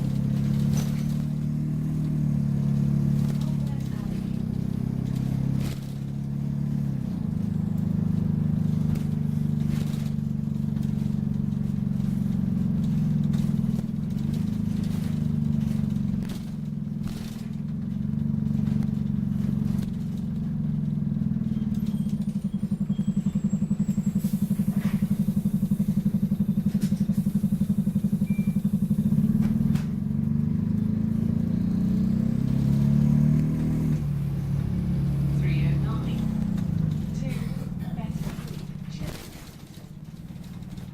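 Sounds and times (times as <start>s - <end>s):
bodywork clicks and rattles: 0.0s - 30.8s, 35.6s - 40.9s
bus diesel engine running: 0.0s - 40.9s.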